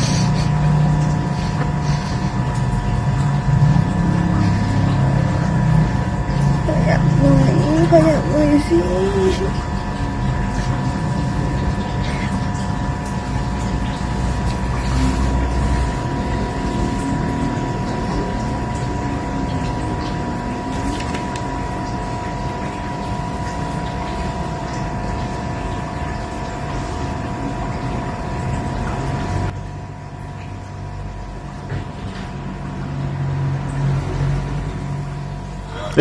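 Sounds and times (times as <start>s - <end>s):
mechanical hum with whining tones: 0.0s - 36.0s.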